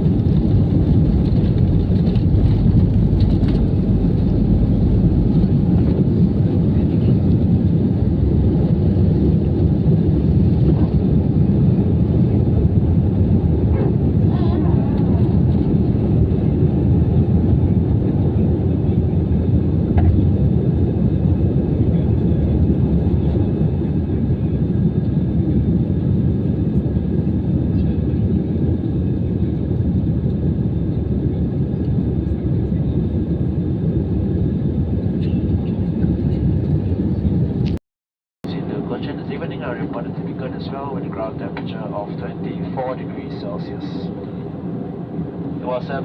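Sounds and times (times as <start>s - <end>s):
airplane cabin engine rumble: 0.0s - 37.8s, 38.4s - 46.0s.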